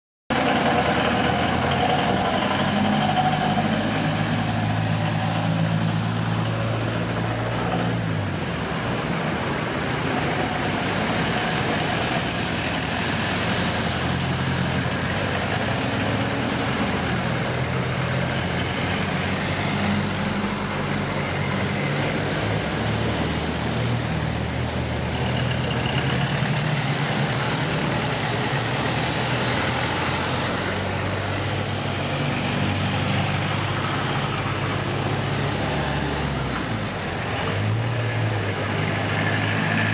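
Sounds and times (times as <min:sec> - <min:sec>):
jeep engines driving past: 0:00.3 - 0:39.9.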